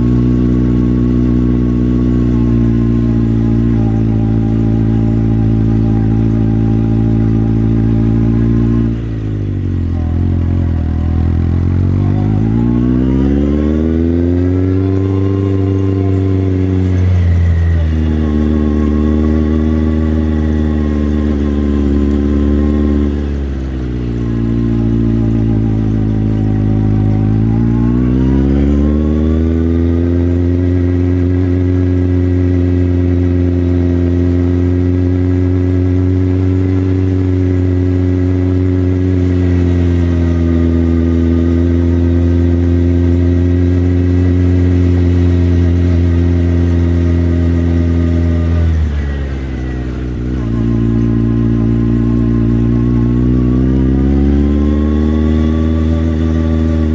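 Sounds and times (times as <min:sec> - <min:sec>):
motorcycle engine: 0:00.0 - 0:56.9.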